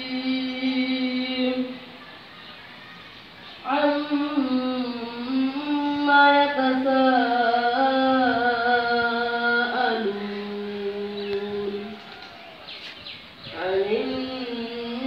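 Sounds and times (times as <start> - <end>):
person singing a slow chant: 0.0 - 2.0, 3.6 - 12.5, 13.4 - 15.0.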